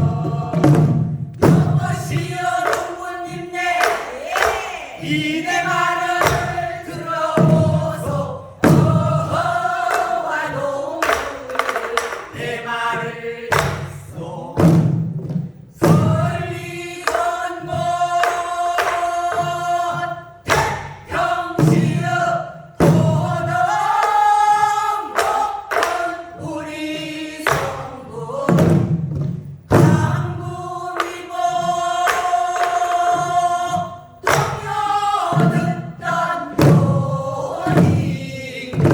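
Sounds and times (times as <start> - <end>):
barrel drum strokes: 0.0 - 38.9
group singing folk song: 0.0 - 38.9.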